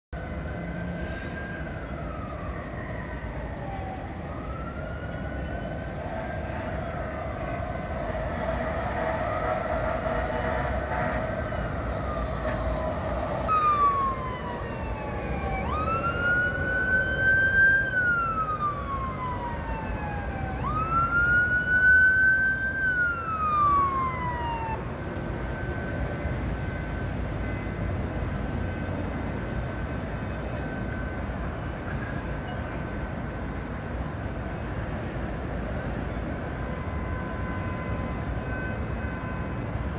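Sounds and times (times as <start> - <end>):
traffic noise: 0.1 - 39.9
fire engine siren wailing: 0.2 - 39.9.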